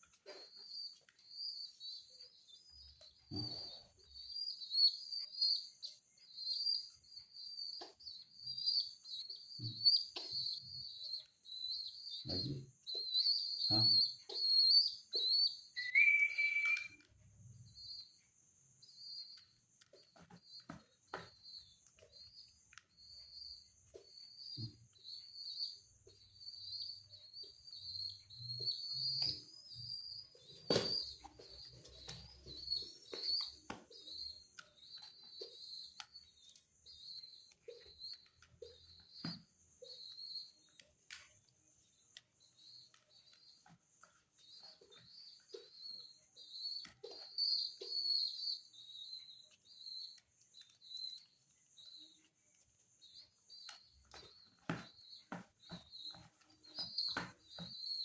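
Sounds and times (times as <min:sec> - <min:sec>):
high-pitched bird chirps: 0:00.2 - 0:18.2, 0:18.8 - 0:41.2, 0:41.8 - 0:52.4, 0:53.0 - 0:58.0.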